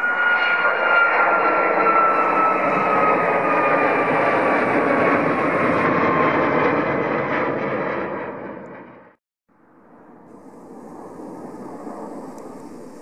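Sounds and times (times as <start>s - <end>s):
jet engines roaring at take-off: 0.0s - 13.0s.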